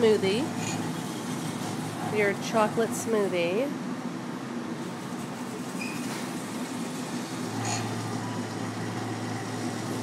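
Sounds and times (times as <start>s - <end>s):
blending machine humming: 0.0s - 10.0s.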